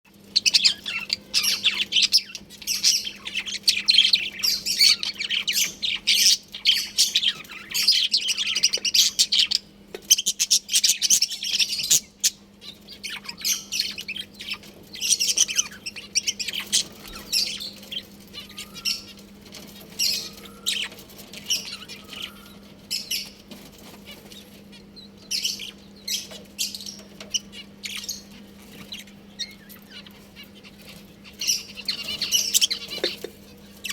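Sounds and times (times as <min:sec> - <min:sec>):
budgerigars chirping and chattering: 0:00.1 - 0:33.9
steady low hum: 0:00.1 - 0:33.9.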